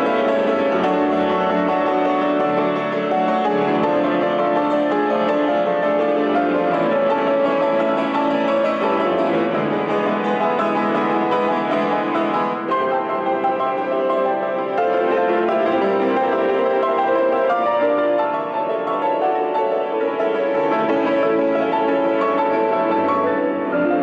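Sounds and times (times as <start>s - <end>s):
grand piano playing: 0.0s - 24.0s
orchestra: 0.0s - 24.0s.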